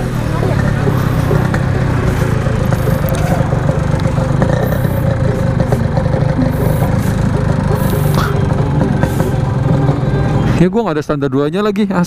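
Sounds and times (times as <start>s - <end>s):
two-stroke engine running: 0.0s - 10.6s.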